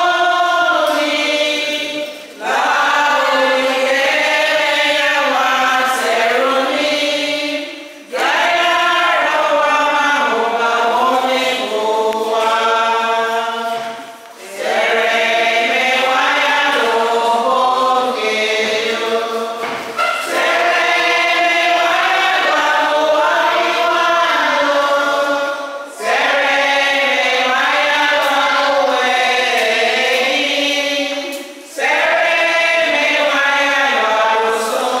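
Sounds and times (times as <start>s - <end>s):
group singing a hymn: 0.0s - 35.0s.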